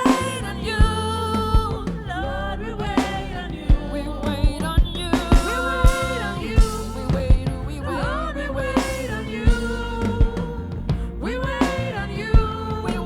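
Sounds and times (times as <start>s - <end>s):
slow drum-kit beat: 0.0s - 2.1s, 2.9s - 7.7s, 8.8s - 13.0s
sustained keyboard chords: 0.0s - 13.0s.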